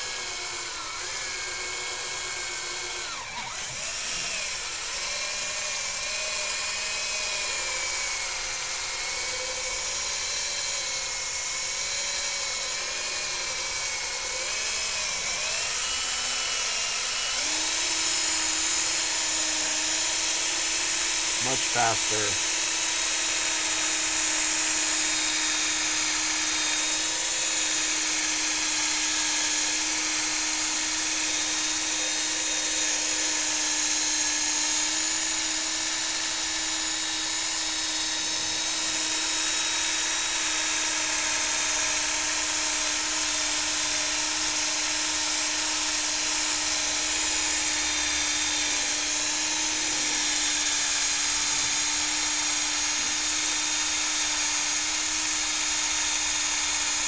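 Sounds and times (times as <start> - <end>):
cordless drill whining: 0.0 - 57.0.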